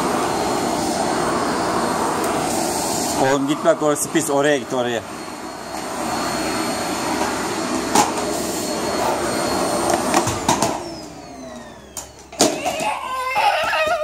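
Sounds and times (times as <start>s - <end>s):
vacuum cleaner motor whine: 0.0s - 14.0s.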